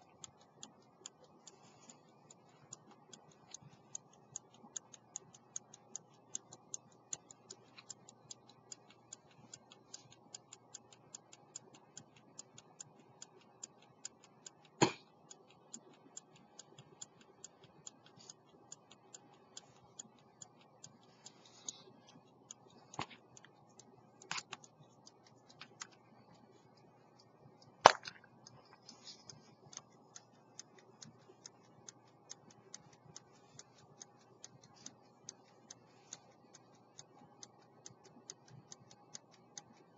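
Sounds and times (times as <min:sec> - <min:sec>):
pocket watch ticking: 0:00.0 - 0:39.9.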